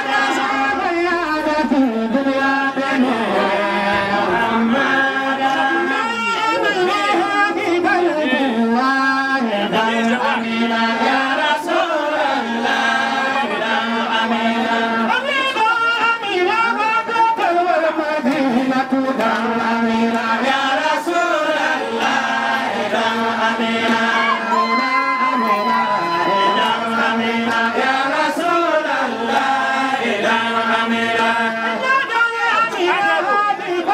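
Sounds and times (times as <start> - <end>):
voices chanting devotional song: 0.0 - 33.9.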